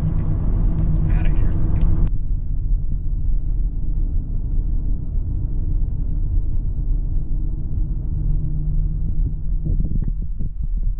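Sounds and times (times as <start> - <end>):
truck engine rumbling: 0.0 - 10.9.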